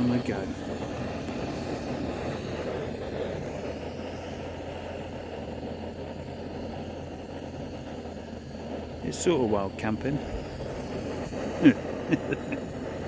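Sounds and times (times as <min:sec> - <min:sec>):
gas stove burner hissing: 0:00.0 - 0:13.0.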